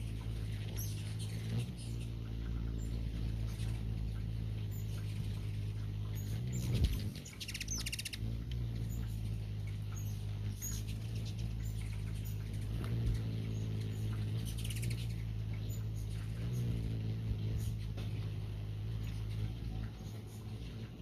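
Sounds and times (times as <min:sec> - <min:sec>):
hummingbird squeaky chips: 0:00.0 - 0:18.3
hummingbird chittering: 0:00.0 - 0:21.0
steady low hum: 0:00.0 - 0:21.0.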